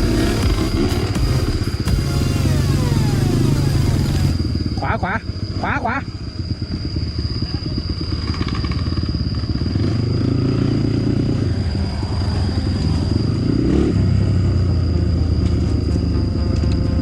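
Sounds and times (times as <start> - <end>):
dirt bike engine revving: 0.0 - 7.0, 7.9 - 14.8.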